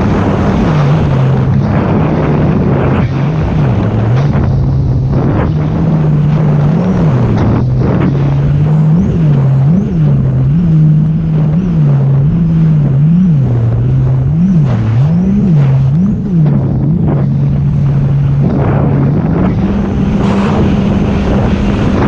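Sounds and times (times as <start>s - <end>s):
rushing water and wind: 0.0s - 22.0s
watercraft engine revving: 0.0s - 22.0s.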